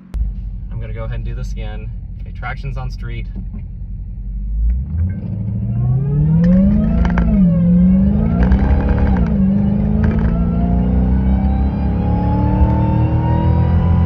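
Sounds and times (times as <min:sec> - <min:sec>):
high supercharger whine: 0:00.0 - 0:14.0
car engine accelerating hard: 0:00.1 - 0:14.0.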